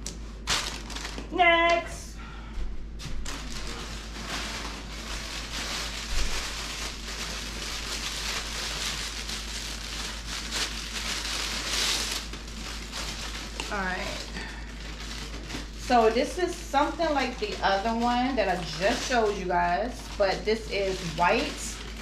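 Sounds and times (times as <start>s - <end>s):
plastic packaging crinkling: 0.1s - 1.9s, 3.2s - 22.0s.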